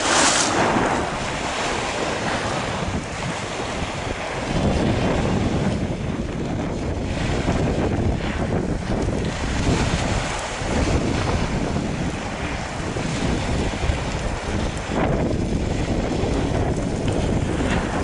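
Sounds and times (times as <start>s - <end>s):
waves splashing against stone wall: 0.0s - 18.0s
wind buffeting microphone: 0.0s - 18.0s.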